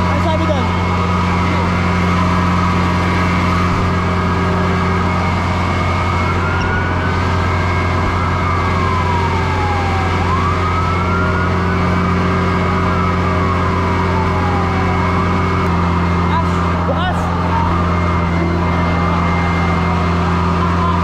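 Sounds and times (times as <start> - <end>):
fire truck siren wailing: 0.0 - 21.0
low engine drone: 0.0 - 21.0.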